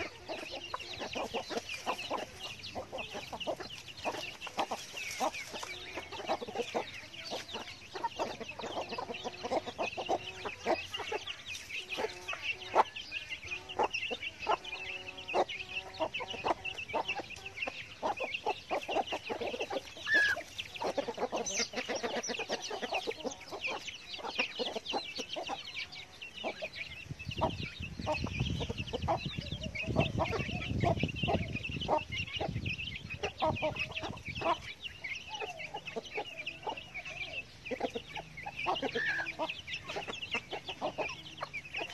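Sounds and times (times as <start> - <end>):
chicks peeping: 0.0 - 41.9
hens clucking: 0.0 - 41.9.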